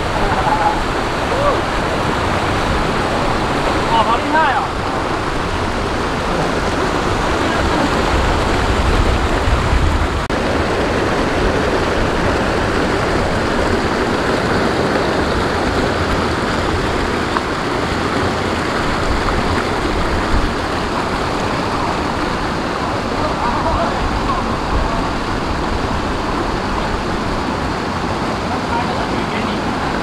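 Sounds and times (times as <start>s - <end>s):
water rushing through weir: 0.0s - 30.0s.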